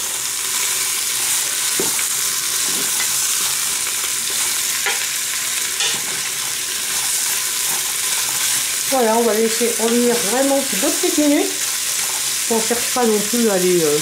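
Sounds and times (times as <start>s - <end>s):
sausages and onion sizzling: 0.0s - 14.0s.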